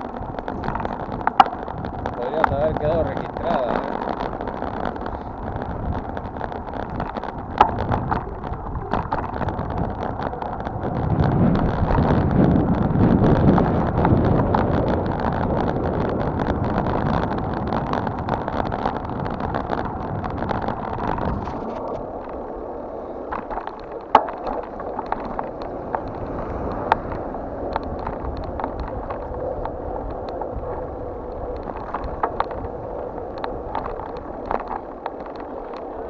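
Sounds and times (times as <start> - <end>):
bike rattling: 0.0 - 36.0
tyre rumble: 0.0 - 36.0
wind rushing over microphone: 0.0 - 36.0.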